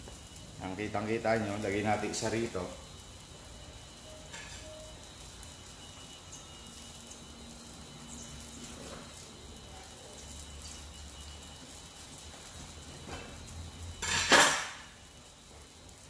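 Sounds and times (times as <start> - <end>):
broth simmering in pot: 0.0 - 16.0.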